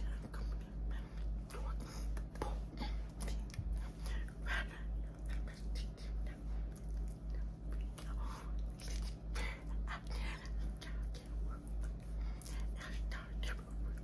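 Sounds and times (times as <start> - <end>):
lip smacks and mouth clicks: 0.0 - 4.4, 5.0 - 14.0
low throbbing hum: 0.0 - 14.0.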